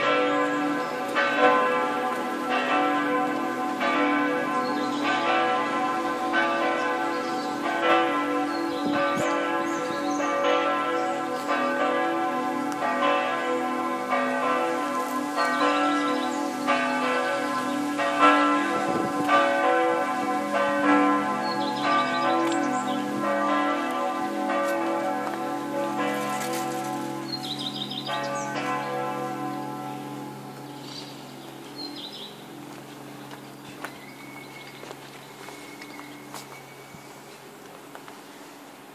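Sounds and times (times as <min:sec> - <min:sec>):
church bells ringing: 0:00.0 - 0:37.5.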